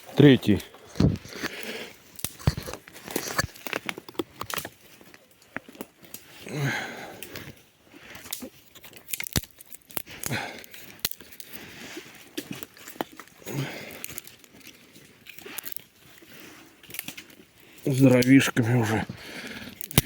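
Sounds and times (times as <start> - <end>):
crunching and rustling: 0.0 - 20.0
sharp snaps and cracks: 0.0 - 20.0.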